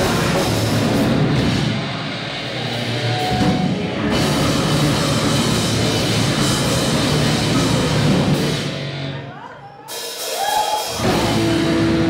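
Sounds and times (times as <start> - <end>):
drum kit: 0.0 - 9.2, 9.9 - 12.0
distorted electric guitars: 0.0 - 9.3, 10.8 - 12.0
bass guitar: 0.0 - 9.4, 10.9 - 12.0.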